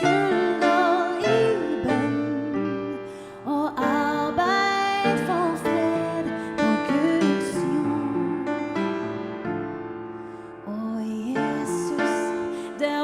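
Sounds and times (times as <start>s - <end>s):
woman singing: 0.0s - 9.0s, 10.7s - 13.0s.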